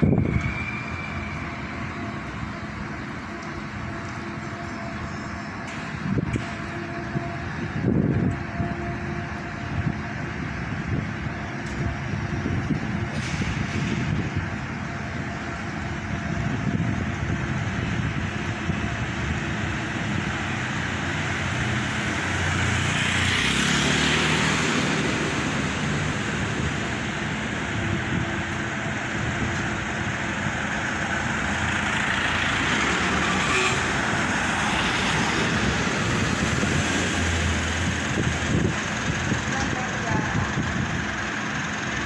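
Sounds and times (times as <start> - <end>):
vehicles passing close: 0.0 - 42.0.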